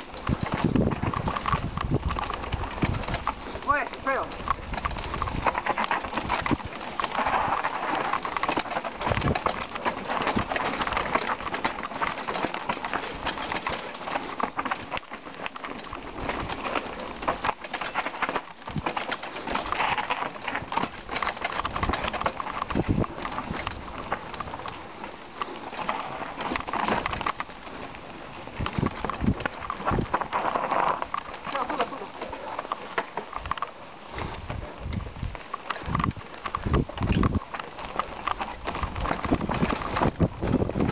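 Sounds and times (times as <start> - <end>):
bike rattling over bumps: 0.0 - 40.9
tyres crunching over stones: 0.0 - 40.9.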